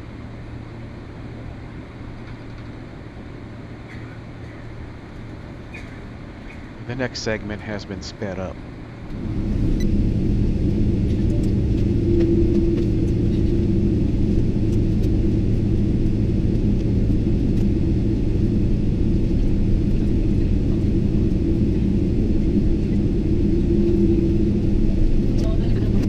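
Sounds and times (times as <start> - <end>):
faint hum: 0.0 - 26.0
aircraft cabin rumble: 0.1 - 26.0.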